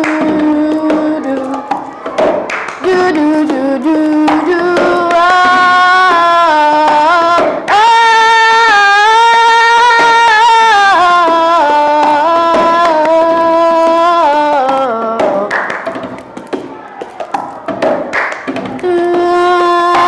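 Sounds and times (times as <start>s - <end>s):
high voice singing: 0.0s - 20.0s.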